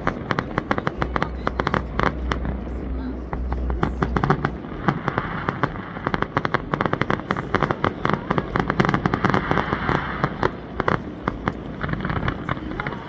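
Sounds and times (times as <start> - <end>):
fireworks banging and crackling: 0.0 - 13.0.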